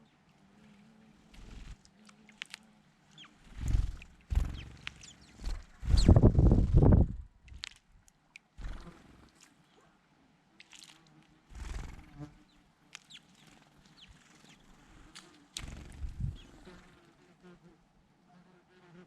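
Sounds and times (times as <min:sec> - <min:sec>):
small birds chirping: 0:00.0 - 0:10.0, 0:10.6 - 0:17.1.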